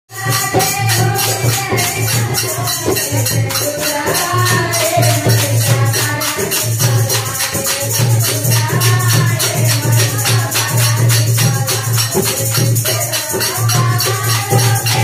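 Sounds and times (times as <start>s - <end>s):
jingling hand percussion: 0.1s - 15.0s
women singing devotional song: 0.1s - 15.0s.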